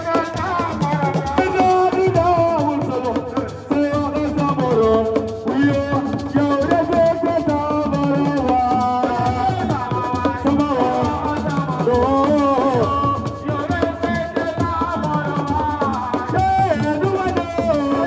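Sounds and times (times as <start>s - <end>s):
drums: 0.0s - 18.0s
person singing: 0.0s - 18.0s
shaker rattles: 0.0s - 18.0s.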